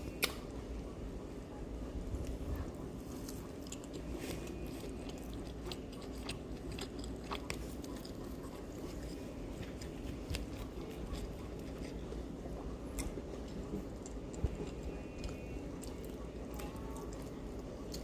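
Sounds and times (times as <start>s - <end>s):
low steady hum: 0.0s - 18.0s
crunchy chewing: 2.2s - 18.0s.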